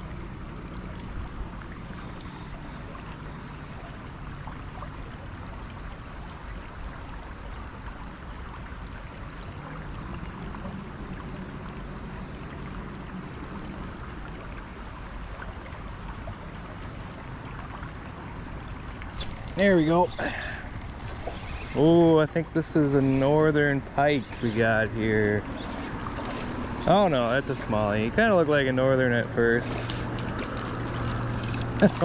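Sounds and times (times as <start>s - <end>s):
flowing water: 0.0s - 32.0s.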